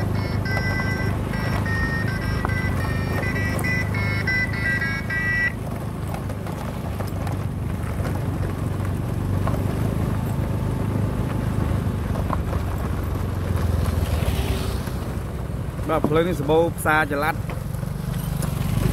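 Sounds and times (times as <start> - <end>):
small motorbike engine running: 0.0 - 18.9.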